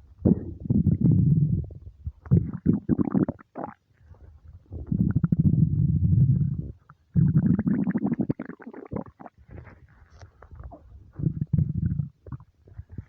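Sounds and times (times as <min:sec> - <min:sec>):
stomach rumbling and gurgling: 0:00.0 - 0:13.0.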